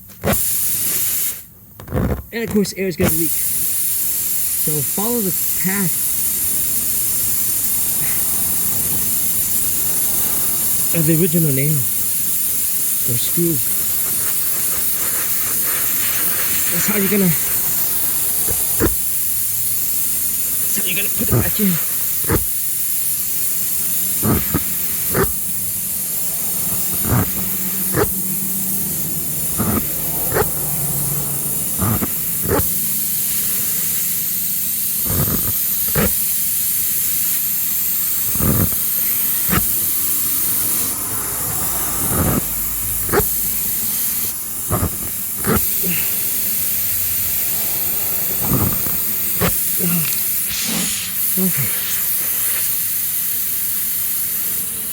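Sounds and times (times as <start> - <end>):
air hissing from tyre: 0.0 - 54.9.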